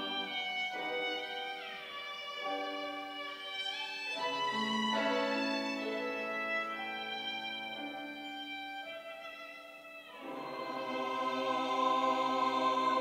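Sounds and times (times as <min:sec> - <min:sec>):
church choir singing: 0:00.0 - 0:08.3, 0:10.0 - 0:13.0.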